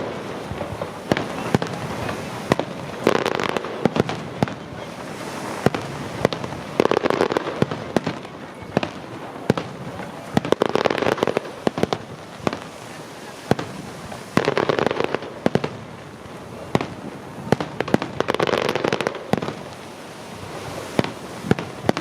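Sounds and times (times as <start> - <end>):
fireworks bangs and crackles: 0.0 - 22.0
heavy firework bursts: 0.0 - 22.0.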